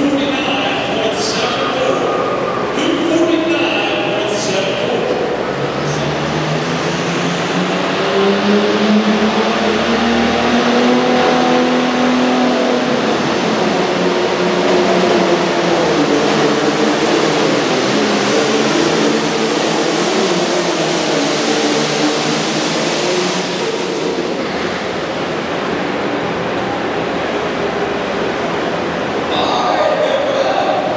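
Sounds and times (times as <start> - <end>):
diesel engine roaring: 0.0 - 30.9.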